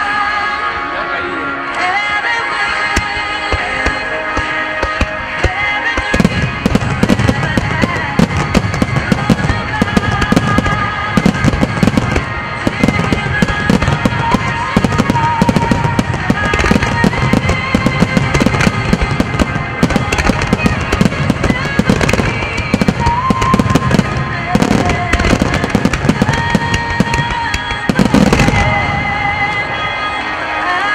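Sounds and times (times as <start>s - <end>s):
music: 0.0s - 30.9s
fireworks bursting: 2.7s - 30.6s.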